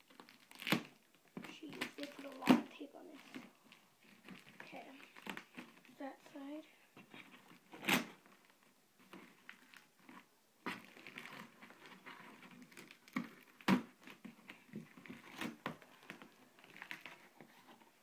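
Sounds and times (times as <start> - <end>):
cardboard box crinkling: 0.0 - 6.1, 7.0 - 18.0.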